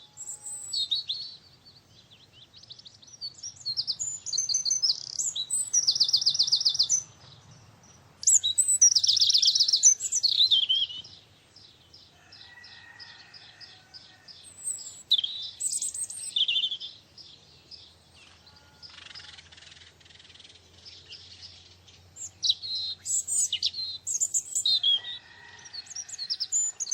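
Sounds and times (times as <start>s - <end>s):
quiet bird chirps: 0.0s - 26.9s
songbirds singing trilled phrases: 0.0s - 26.9s.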